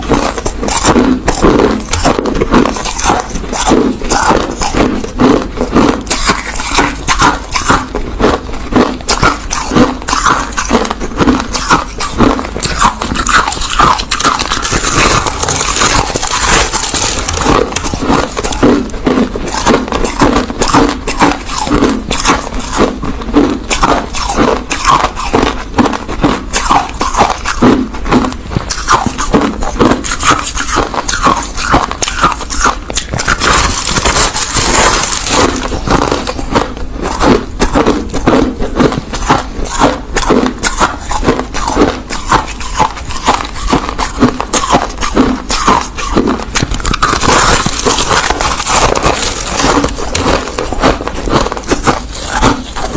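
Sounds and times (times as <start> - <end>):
crushed ice being chewed: 0.0 - 52.9.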